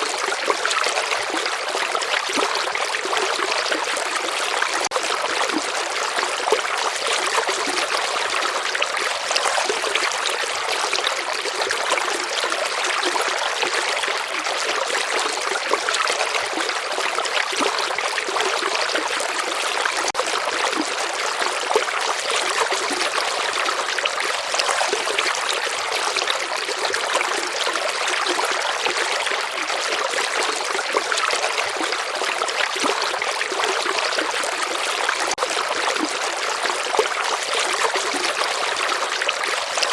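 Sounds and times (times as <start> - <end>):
water flowing over stones: 0.0 - 39.9.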